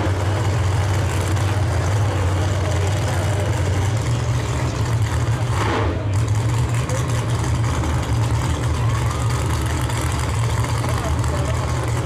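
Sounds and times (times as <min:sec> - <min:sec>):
racing car engine idling: 0:00.0 - 0:12.0.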